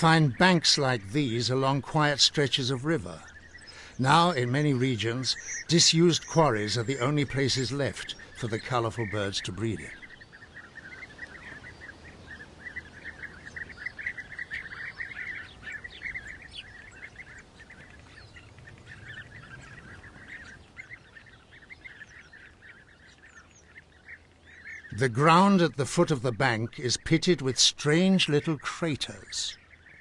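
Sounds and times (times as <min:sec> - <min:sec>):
birds trilled chatter: 0:00.0 - 0:30.0
higher bird chirps: 0:00.0 - 0:30.0.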